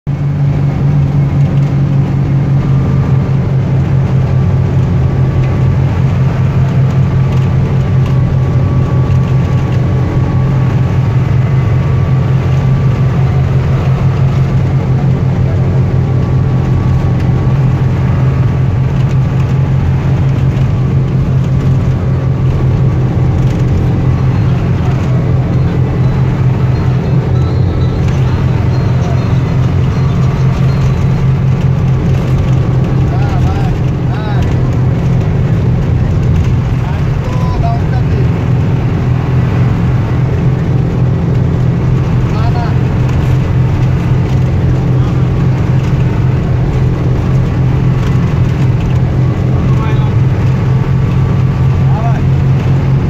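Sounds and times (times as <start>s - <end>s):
bus engine drone: 0.0s - 53.0s
road noise: 0.0s - 53.0s
faint whine: 0.1s - 53.0s.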